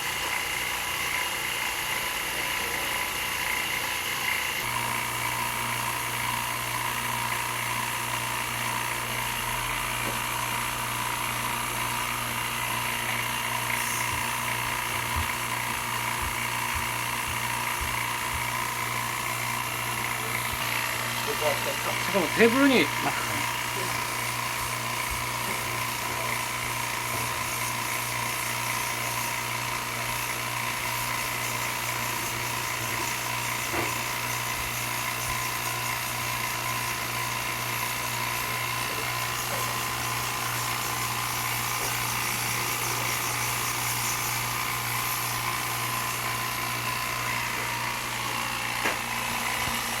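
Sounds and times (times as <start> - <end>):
pressure washer motor whine: 0.0 - 50.0.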